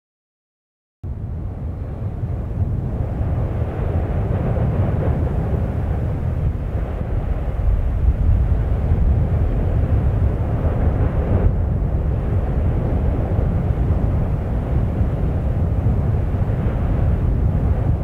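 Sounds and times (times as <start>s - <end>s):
volcano rumbling: 1.1s - 18.0s.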